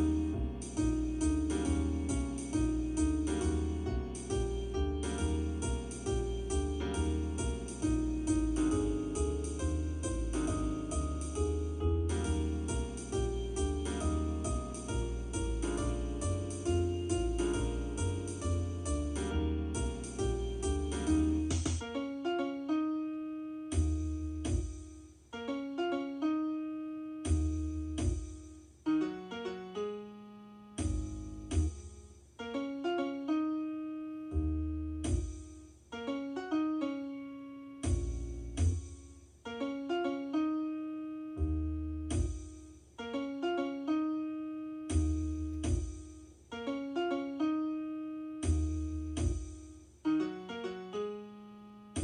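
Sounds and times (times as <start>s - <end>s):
low piano bass chords: 0.0s - 52.0s
piano single notes: 0.0s - 52.0s.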